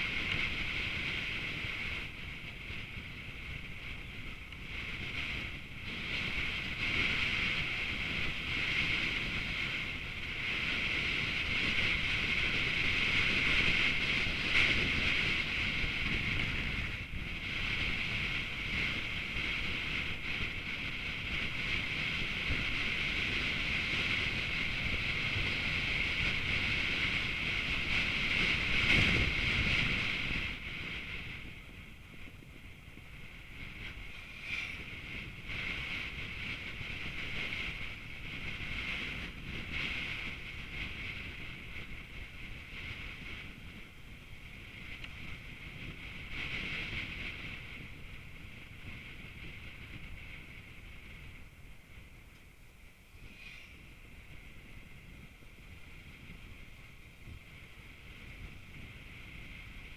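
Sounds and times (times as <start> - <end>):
vehicle wind and road noise: 0.0 - 59.9.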